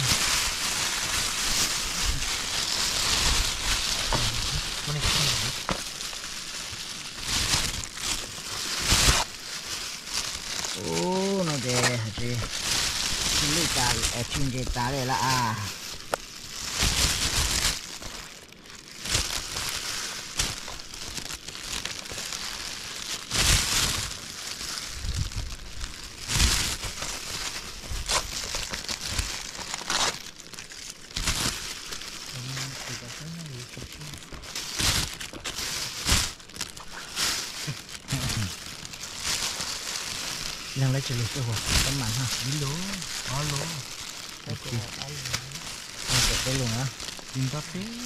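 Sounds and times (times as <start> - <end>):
banana leaves rustling: 0.0 - 48.0
plastic bag crinkling: 0.0 - 48.0.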